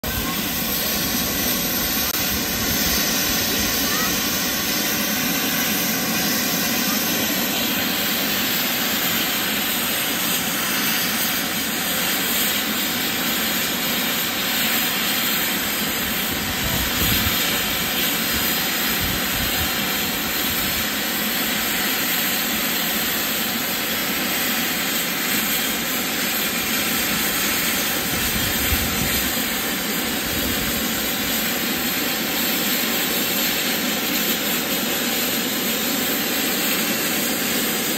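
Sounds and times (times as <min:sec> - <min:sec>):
steam hissing from safety valves: 0:00.0 - 0:37.9.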